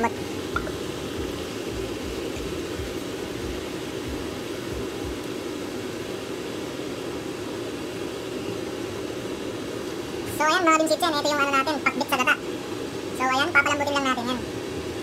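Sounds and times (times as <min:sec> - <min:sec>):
steady whirring hum: 0:00.0 - 0:15.0.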